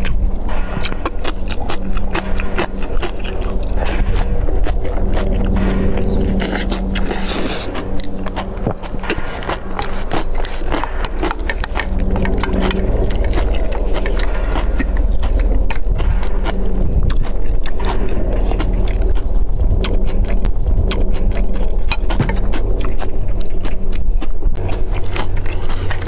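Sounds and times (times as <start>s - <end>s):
chewing: 0.0s - 26.0s
low rumble: 0.0s - 26.0s.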